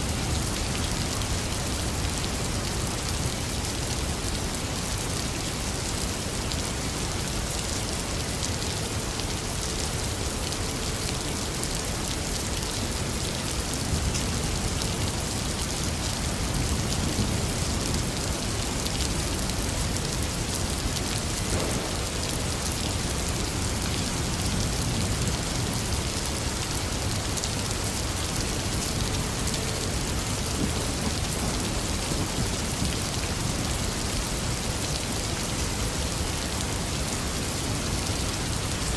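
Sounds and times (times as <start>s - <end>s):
heavy rainfall: 0.0s - 38.9s
rain drops hitting surface: 0.0s - 38.9s.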